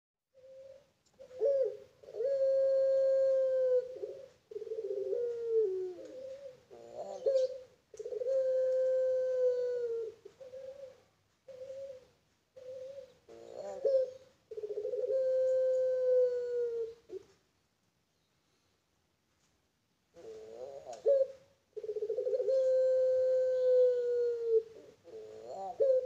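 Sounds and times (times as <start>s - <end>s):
dove cooing: 0.4s - 17.4s, 20.1s - 26.0s.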